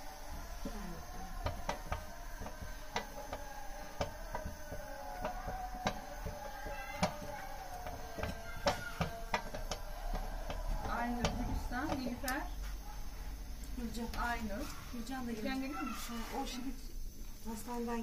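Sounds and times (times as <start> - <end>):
faint steady hum: 0.0 - 18.0
wooden spoon beating dough in pot: 0.0 - 18.0.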